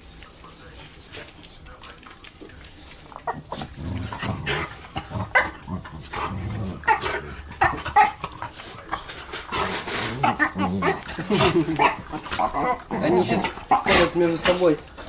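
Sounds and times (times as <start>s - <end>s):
dogs growling and whining: 1.0s - 15.0s.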